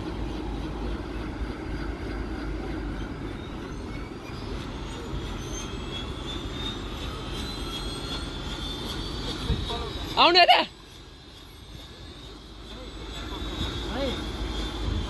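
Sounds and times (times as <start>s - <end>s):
helicopter idling: 0.0s - 15.0s
high turbine whine: 0.0s - 15.0s.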